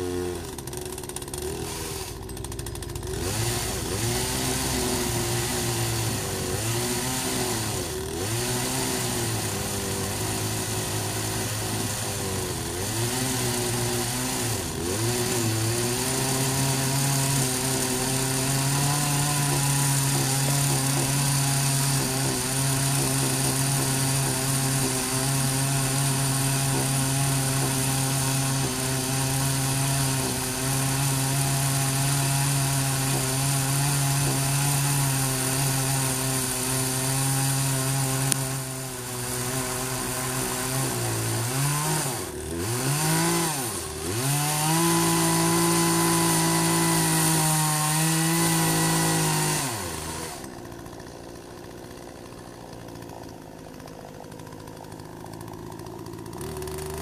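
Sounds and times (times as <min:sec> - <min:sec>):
chainsaw cutting into stump: 0:00.0 - 0:57.0.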